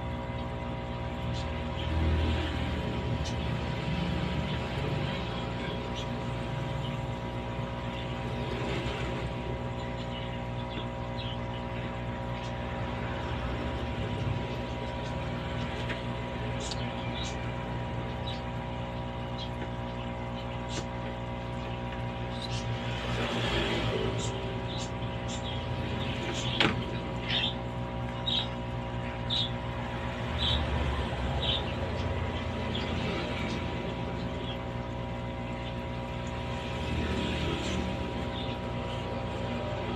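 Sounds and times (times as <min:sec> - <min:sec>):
aquarium air pump humming: 0:00.0 - 0:39.9.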